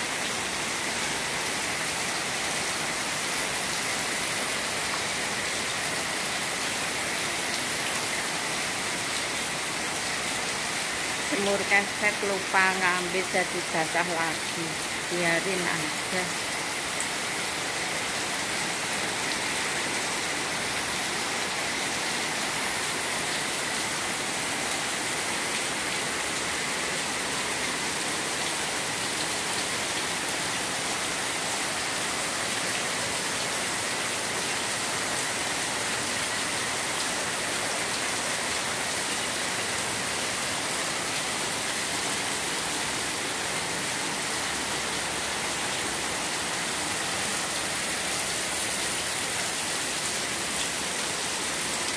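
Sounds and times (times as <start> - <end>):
heavy rain on wet pavement: 0.0 - 51.9.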